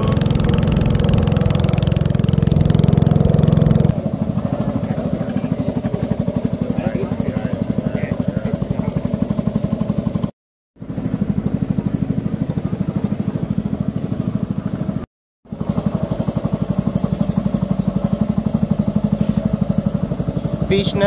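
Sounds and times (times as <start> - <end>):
small boat motor running: 0.0 - 21.0.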